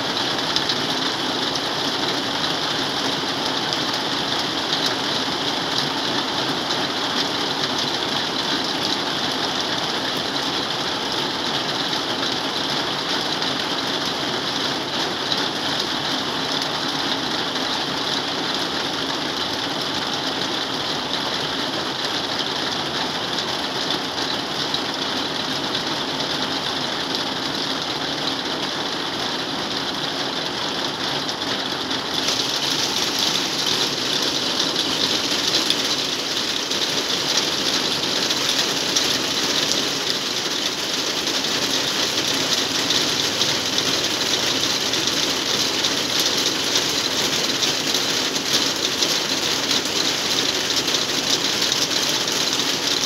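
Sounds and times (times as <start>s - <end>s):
heavy rain on metal roof: 0.0s - 53.0s.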